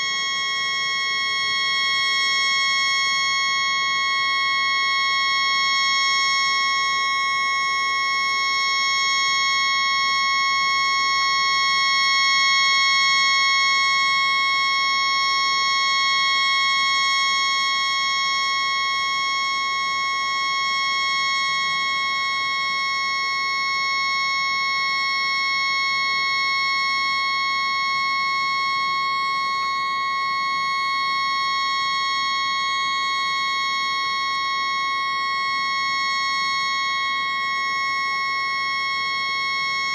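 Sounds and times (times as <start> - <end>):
high-pitched steady horn tone: 0.0 - 39.9.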